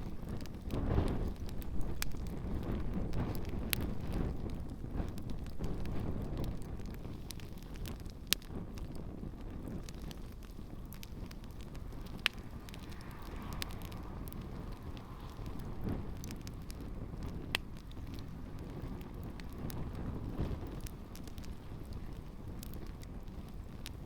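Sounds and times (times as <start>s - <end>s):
campfire flames rumbling: 0.0s - 24.0s
fire crackling and popping: 0.0s - 24.0s.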